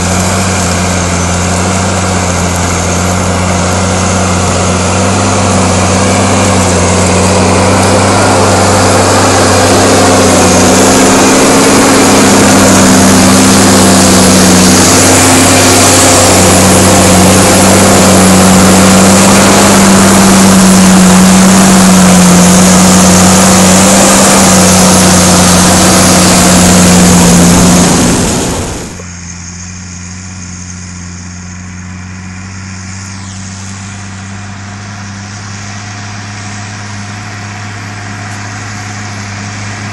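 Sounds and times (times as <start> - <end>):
distant tractor engine: 0.0 - 39.9
tractor diesel engine under load: 0.0 - 39.9.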